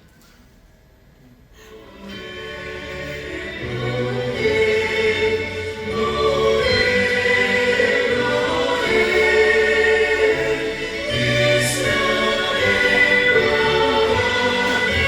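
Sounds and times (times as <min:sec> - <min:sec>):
choir singing sacred music: 0:01.6 - 0:15.0.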